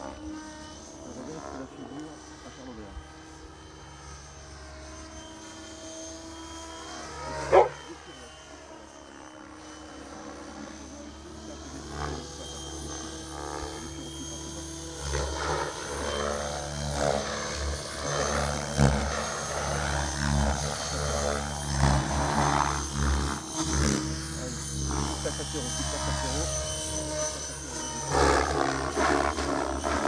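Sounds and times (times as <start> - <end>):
model helicopter drone: 0.0 - 30.0.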